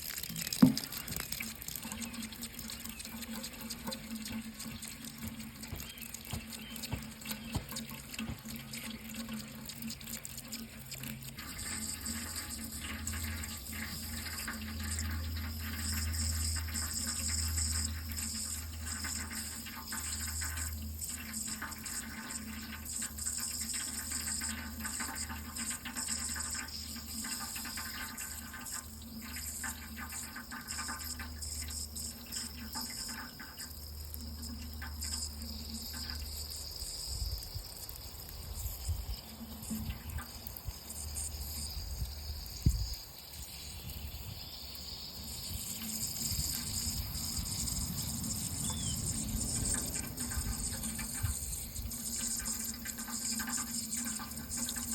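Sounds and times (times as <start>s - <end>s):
water running steadily: 0.0s - 54.9s.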